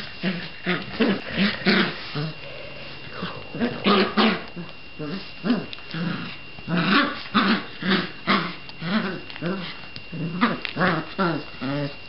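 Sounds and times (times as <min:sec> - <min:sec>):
puppy growling and yapping: 0:00.0 - 0:12.0.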